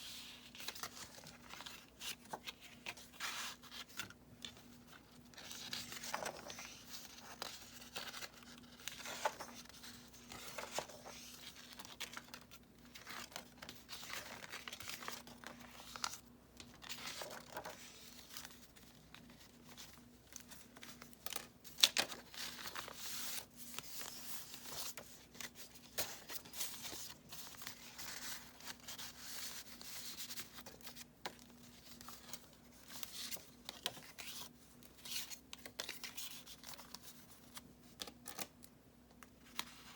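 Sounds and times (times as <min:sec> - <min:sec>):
paper pages rustling: 0:00.0 - 0:38.6.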